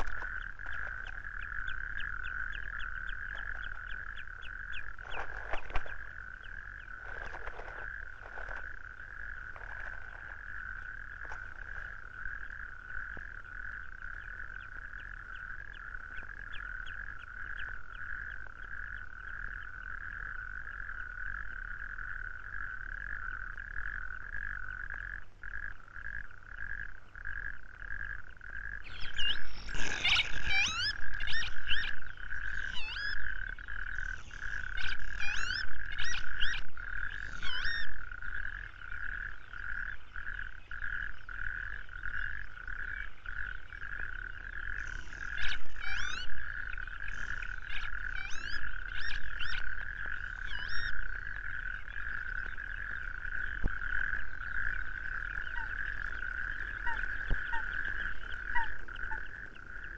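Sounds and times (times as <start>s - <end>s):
frogs trilling: 0.0s - 59.9s.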